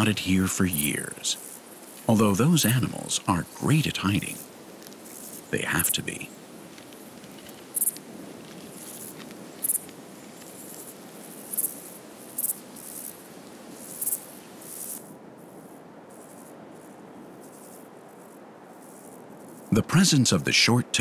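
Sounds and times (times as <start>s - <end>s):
insects chirping: 0.0s - 19.8s
soft hiss: 0.0s - 21.0s.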